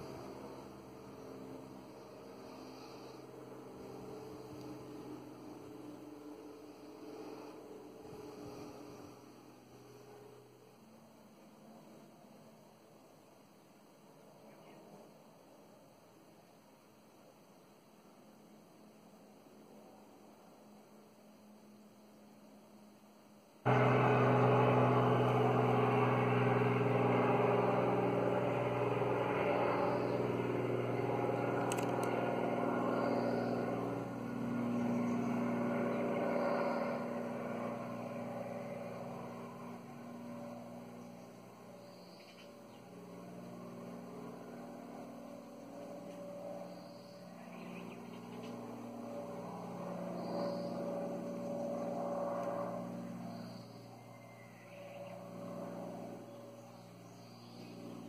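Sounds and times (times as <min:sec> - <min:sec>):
helicopter flying overhead: 0:00.0 - 0:13.4, 0:18.4 - 0:23.0, 0:23.6 - 0:58.0.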